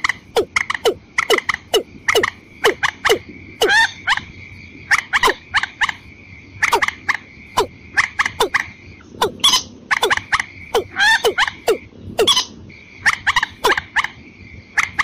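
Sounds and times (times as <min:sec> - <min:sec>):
bird calls duet: 0:00.0 - 0:15.0.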